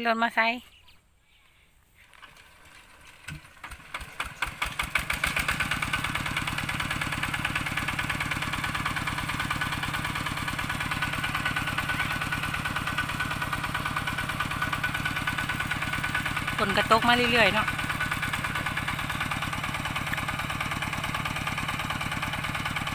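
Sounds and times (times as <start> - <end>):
tractor engine starting: 2.0 - 22.9.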